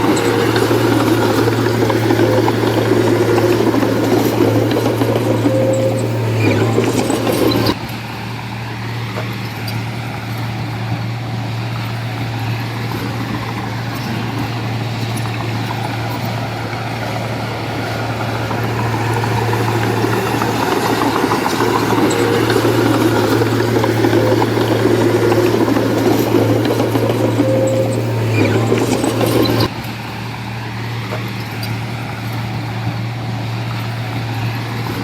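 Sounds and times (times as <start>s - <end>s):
heavy machinery diesel engine: 0.0s - 35.0s.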